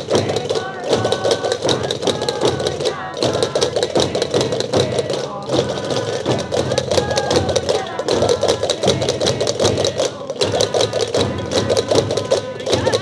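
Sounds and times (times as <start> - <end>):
wooden drums beaten in rhythm: 0.0 - 13.0.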